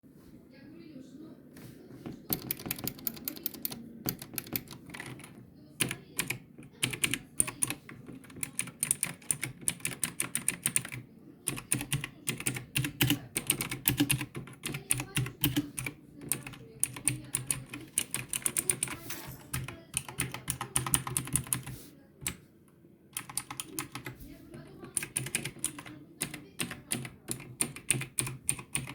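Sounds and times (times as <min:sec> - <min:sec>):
clicky mechanical keyboard typing: 0:02.1 - 0:22.4, 0:23.2 - 0:28.9.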